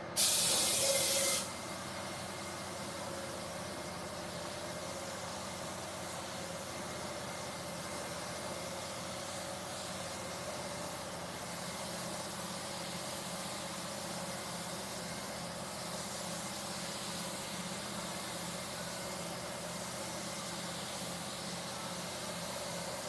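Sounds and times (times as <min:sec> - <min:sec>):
spray gun hissing: 0:00.2 - 0:23.0.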